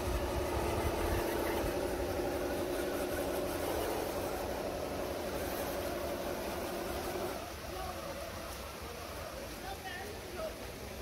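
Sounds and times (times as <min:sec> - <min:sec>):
electric motors whining: 0:00.0 - 0:09.6.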